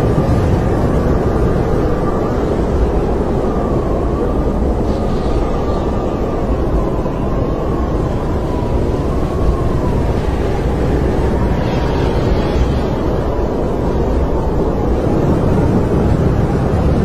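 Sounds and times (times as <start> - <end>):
wind blowing with deep rumble: 0.0 - 17.0.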